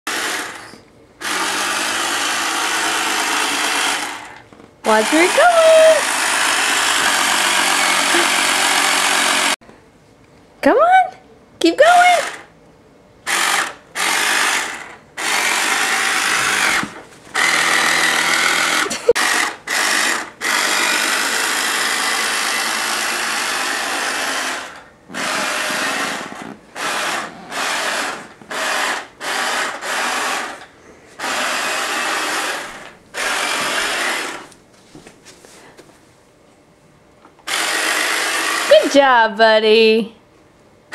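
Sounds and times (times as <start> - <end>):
toy electric motor whine: 0.1 - 9.6, 12.0 - 12.5, 13.3 - 34.6, 37.4 - 39.0.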